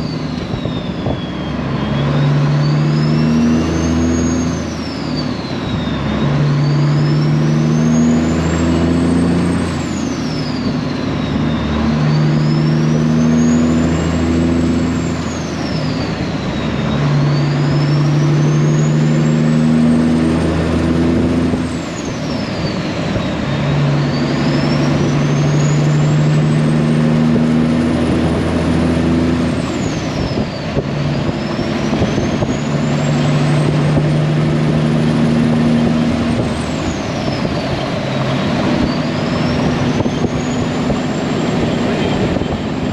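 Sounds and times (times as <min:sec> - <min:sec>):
high turbo whistle: 0:00.0 - 0:42.9
semi truck engine shifting gears: 0:00.0 - 0:42.9.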